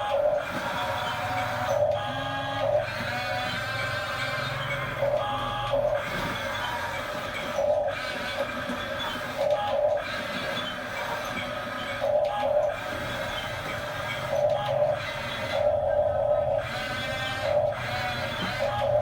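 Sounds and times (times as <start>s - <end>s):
toy electric motors whirring: 0.0s - 19.0s.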